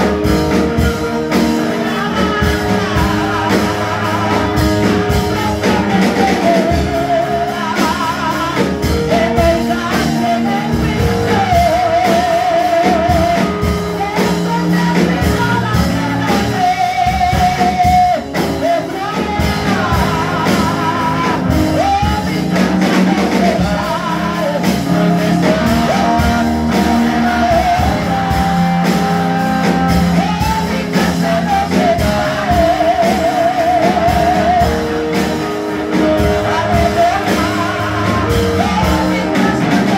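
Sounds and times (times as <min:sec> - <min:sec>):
instrumental accompaniment: 0:00.0 - 0:39.9.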